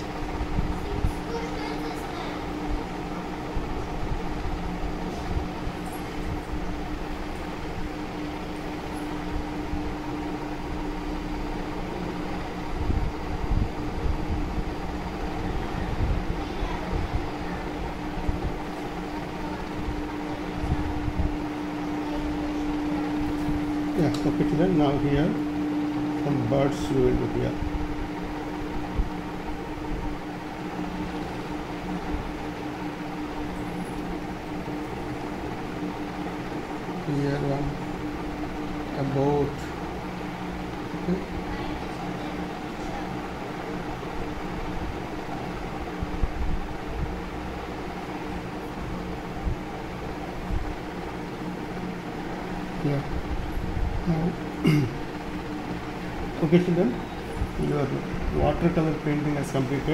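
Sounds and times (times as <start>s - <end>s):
fan-like hum and hiss: 0.0s - 59.9s.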